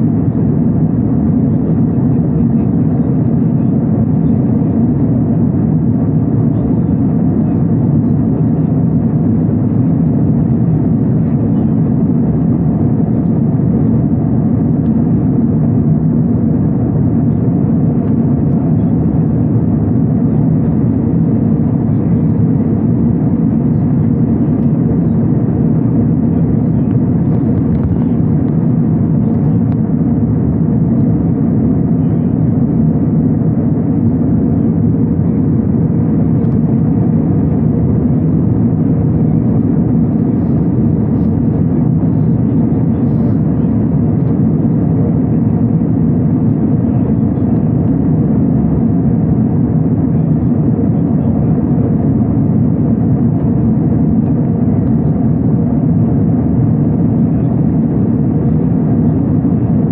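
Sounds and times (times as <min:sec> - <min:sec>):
jet engine cabin rush: 0:00.0 - 0:59.9.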